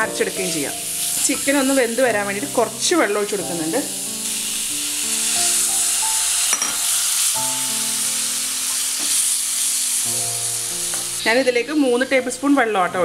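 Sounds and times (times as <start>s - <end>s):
food sizzling in hot oil: 0.0s - 12.9s.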